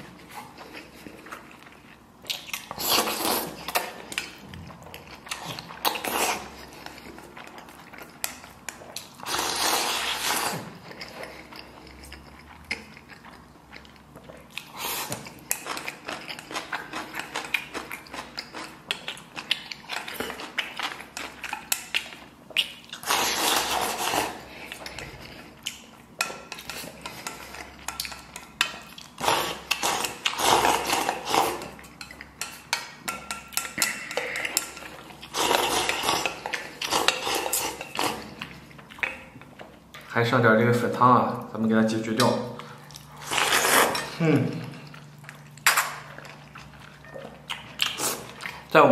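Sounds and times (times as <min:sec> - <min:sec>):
slurping and chewing: 0:00.0 - 0:40.1, 0:42.6 - 0:48.7.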